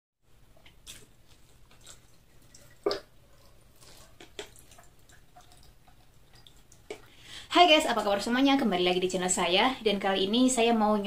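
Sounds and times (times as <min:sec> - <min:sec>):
cola dripping and crackling over ice: 0:00.4 - 0:09.5.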